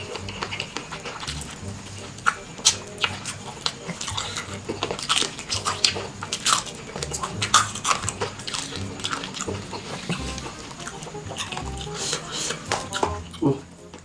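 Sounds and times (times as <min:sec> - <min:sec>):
crunchy chewing: 0:00.0 - 0:13.8.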